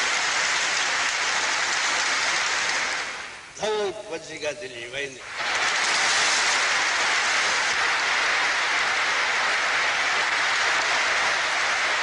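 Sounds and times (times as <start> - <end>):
crowd applauding: 0.0 - 3.8, 5.2 - 12.0.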